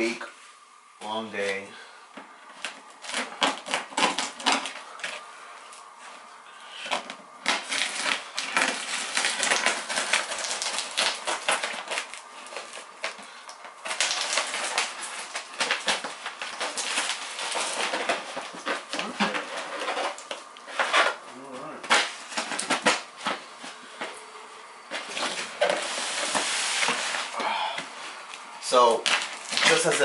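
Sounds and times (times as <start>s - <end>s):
cardboard packaging crackling: 2.3s - 24.2s, 24.8s - 30.0s.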